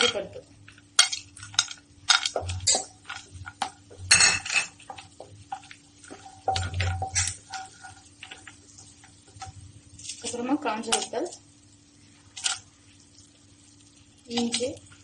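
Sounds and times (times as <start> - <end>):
spatula stirring nuts in a pan: 0.0 - 15.0.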